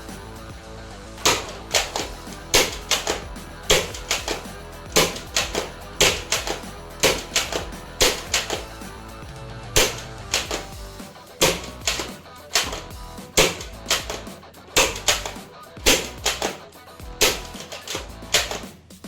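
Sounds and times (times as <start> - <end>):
background music: 0.0 - 19.0
toy gun firing sharp cracks: 1.2 - 8.9, 9.8 - 18.8.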